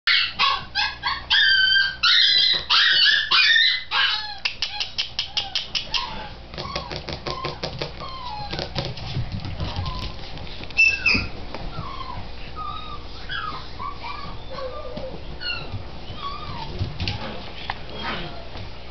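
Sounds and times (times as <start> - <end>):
puppy yapping: 0.1 - 8.9, 10.8 - 18.5.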